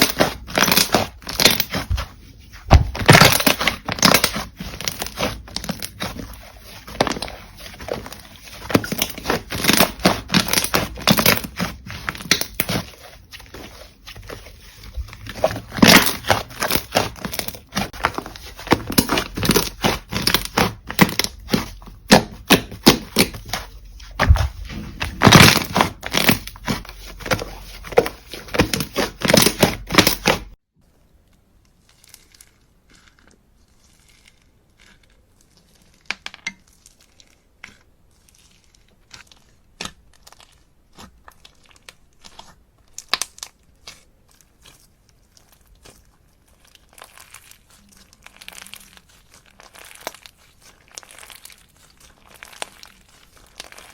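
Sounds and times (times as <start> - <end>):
slime squished by hand: 0.0 - 30.5, 31.8 - 53.9.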